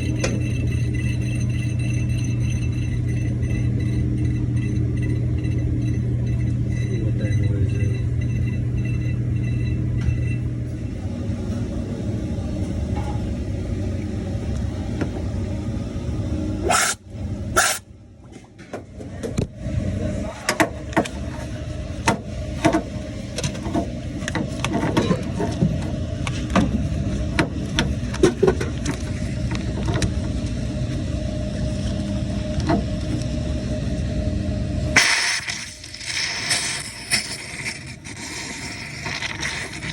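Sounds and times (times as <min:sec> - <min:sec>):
refrigeration unit humming: 0:00.0 - 0:39.9.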